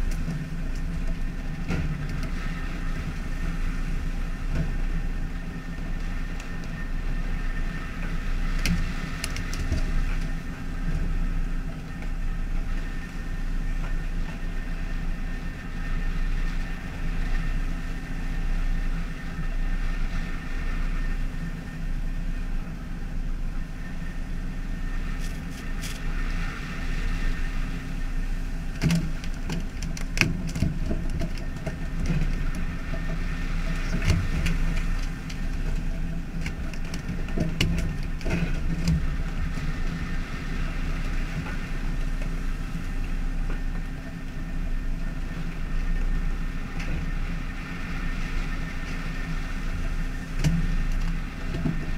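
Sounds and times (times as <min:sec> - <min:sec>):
boat engine drone: 0:00.0 - 0:51.9
sea noise: 0:00.0 - 0:51.9
wind: 0:00.0 - 0:51.9.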